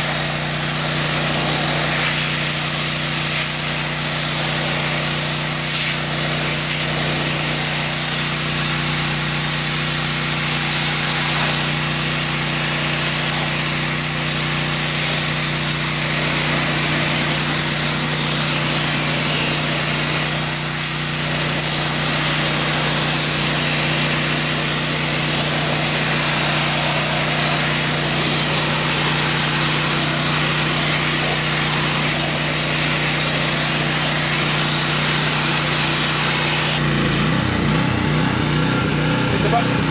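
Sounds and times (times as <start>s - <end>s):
water jet hissing on wood: 0.0s - 36.9s
pressure washer hum: 0.0s - 39.9s.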